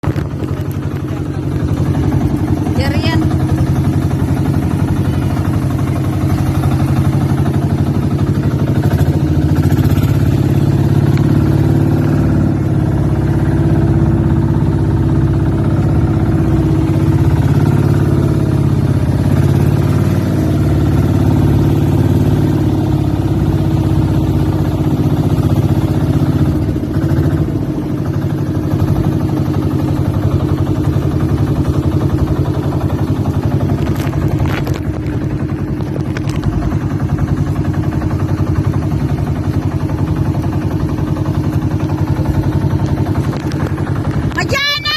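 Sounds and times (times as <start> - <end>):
boat engine running: 0.0 - 44.9.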